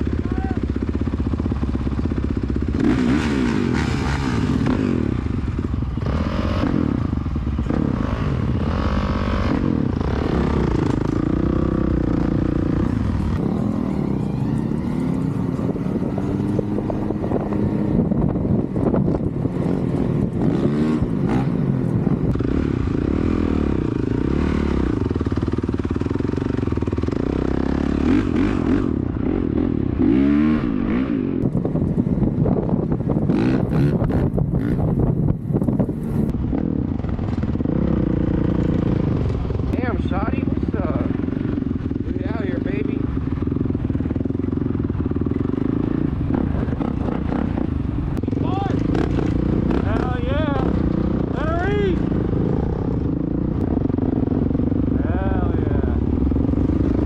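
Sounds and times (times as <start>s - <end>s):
dirt bike engine revving: 0.0s - 31.5s, 33.1s - 35.1s, 35.8s - 57.0s.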